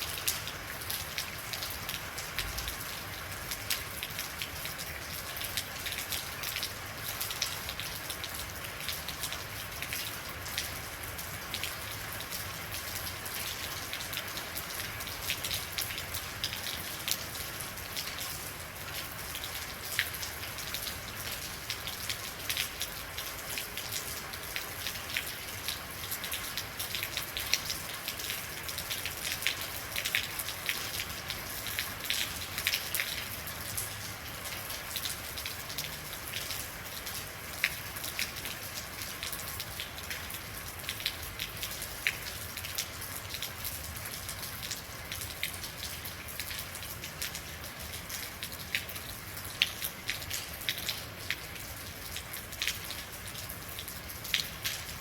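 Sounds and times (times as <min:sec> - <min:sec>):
rain drops pattering on hard surface: 0:00.0 - 0:55.0.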